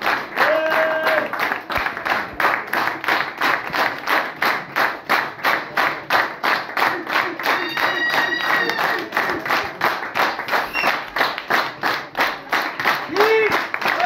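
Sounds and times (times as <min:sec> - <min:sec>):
audience clapping in unison: 0:00.0 - 0:14.0.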